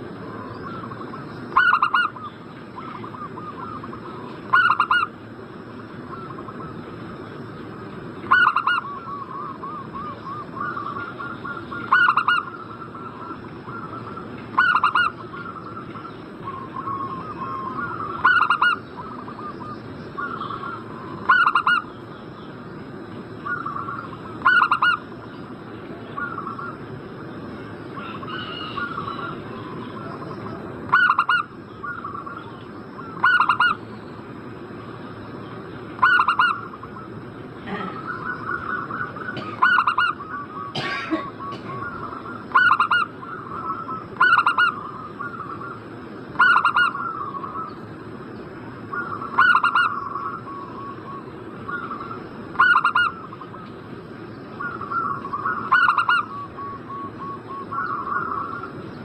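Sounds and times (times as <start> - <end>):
dove cooing: 0.0 - 5.1, 8.3 - 21.9, 23.4 - 25.0, 26.1 - 26.8, 28.0 - 33.8, 36.0 - 47.8, 48.9 - 53.7, 54.6 - 58.8
faint high whine: 0.0 - 59.0.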